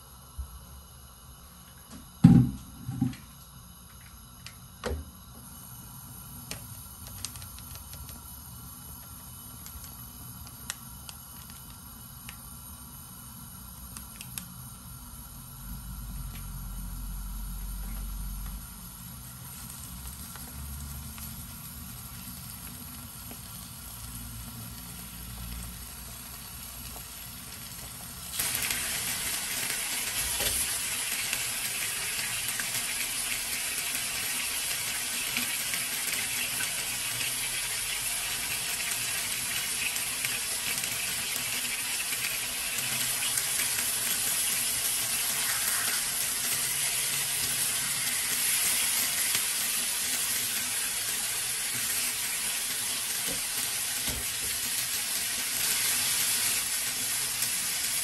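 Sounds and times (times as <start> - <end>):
chicken sizzling in a frying pan: 5.0 - 58.0.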